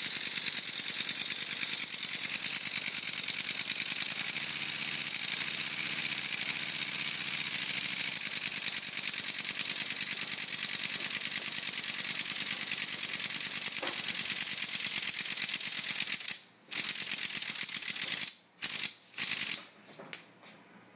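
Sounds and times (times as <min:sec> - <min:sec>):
pneumatic toy engine clattering: 0:00.0 - 0:19.7.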